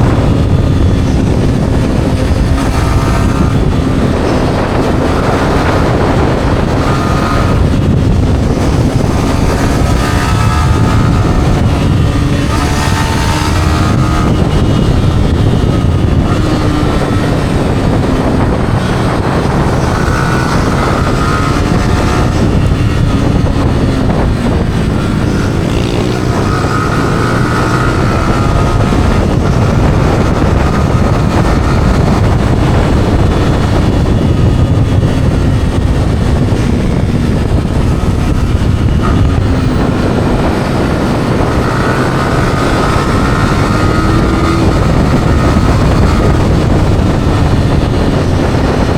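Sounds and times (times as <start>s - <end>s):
motorcycle engine revving: 0.0s - 48.9s
wind rumble on microphone: 0.0s - 48.9s.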